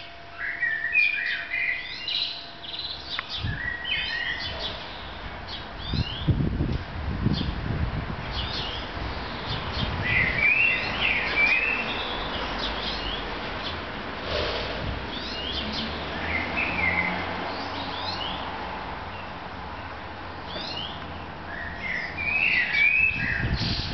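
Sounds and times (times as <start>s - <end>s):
small birds chirping: 0.0s - 6.4s, 8.3s - 23.9s.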